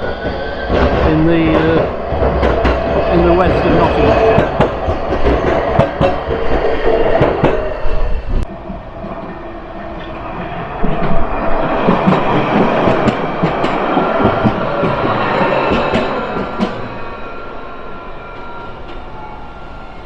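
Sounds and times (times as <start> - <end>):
wheels clicking over track: 0.0 - 17.2
tram running on rails: 0.0 - 20.0.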